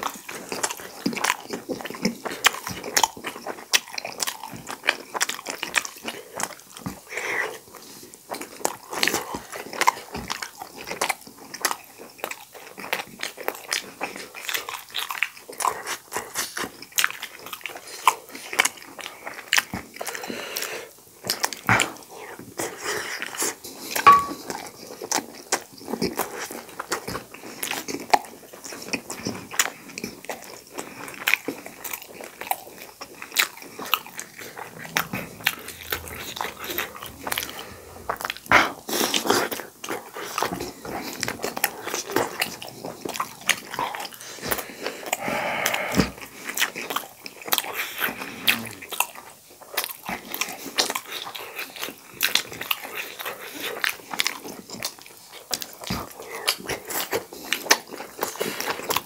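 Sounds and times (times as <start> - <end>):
chewing and crunching food: 0.0 - 23.9, 24.8 - 34.8, 38.6 - 59.0.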